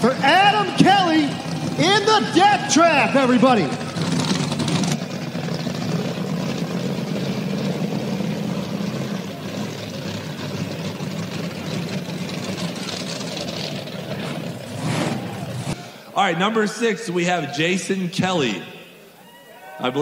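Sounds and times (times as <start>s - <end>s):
truck engine idling low rumble: 0.0s - 18.2s.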